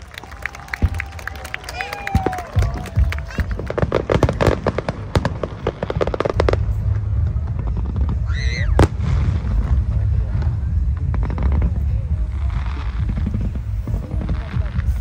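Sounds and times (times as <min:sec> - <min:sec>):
fireworks crackling bangs: 0:00.0 - 0:15.0
low rumble: 0:00.0 - 0:15.0
loud firework bang: 0:02.1 - 0:15.0.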